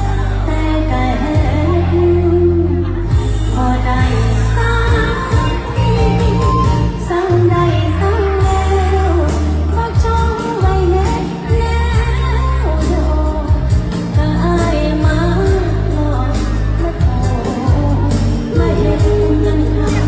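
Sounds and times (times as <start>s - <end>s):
backing track with heavy bass: 0.0s - 20.0s
woman singing into a microphone: 0.0s - 20.0s.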